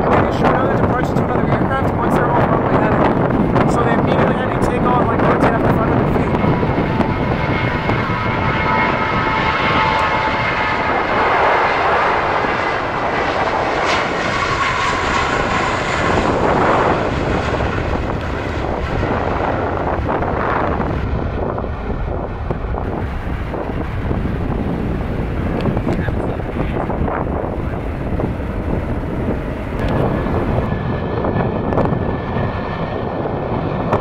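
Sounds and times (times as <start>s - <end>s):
high engine whine: 0.0s - 34.0s
jet engines rushing: 0.0s - 34.0s.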